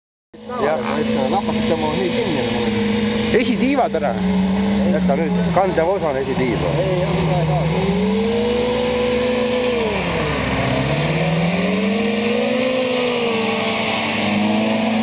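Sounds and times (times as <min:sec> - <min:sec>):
car engine revving hard: 0:00.4 - 0:15.0.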